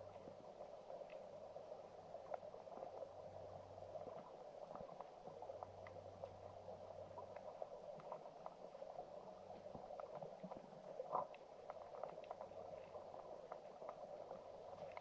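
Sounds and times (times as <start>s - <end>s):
small ticks and clicks: 0.0s - 15.0s
underwater stream flow: 0.0s - 15.0s.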